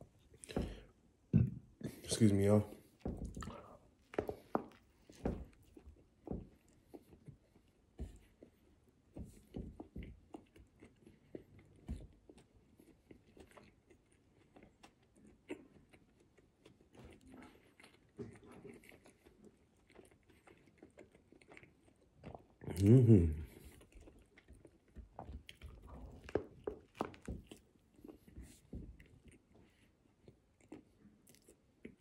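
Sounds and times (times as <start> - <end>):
person chewing food: 0.0 - 2.0, 2.7 - 32.0.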